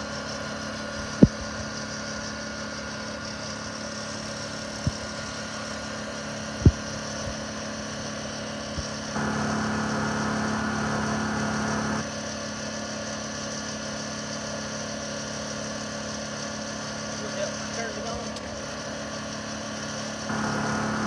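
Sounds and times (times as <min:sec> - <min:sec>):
generator running: 0:00.0 - 0:21.0
arc welder welding: 0:01.0 - 0:21.0.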